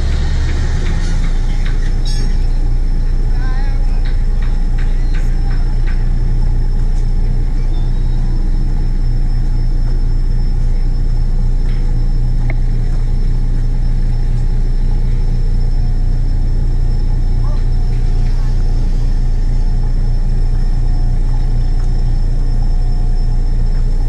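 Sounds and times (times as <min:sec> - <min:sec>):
faint high whine: 0:00.0 - 0:24.0
low engine rumble: 0:00.0 - 0:24.0.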